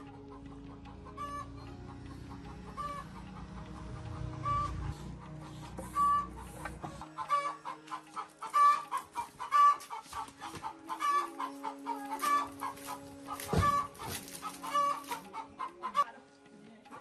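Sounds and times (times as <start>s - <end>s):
chickens clucking: 0.0s - 16.2s.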